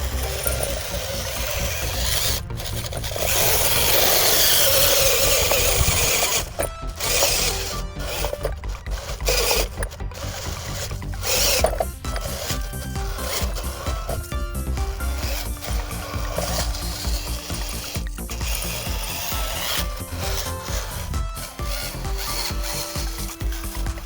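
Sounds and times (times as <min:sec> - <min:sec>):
background music: 0:00.0 - 0:24.0
toy tractor grinding over dirt: 0:00.0 - 0:24.0.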